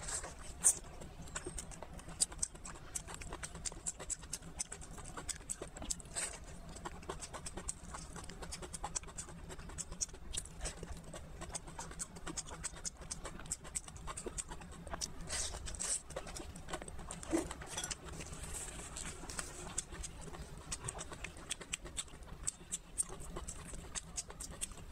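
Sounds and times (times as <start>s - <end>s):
chewing with wet mouth clicks: 0.1s - 24.9s.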